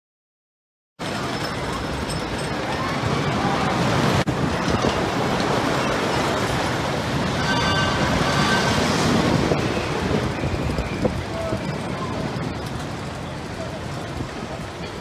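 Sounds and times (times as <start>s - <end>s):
roller coaster rumbling on track: 1.0s - 15.0s.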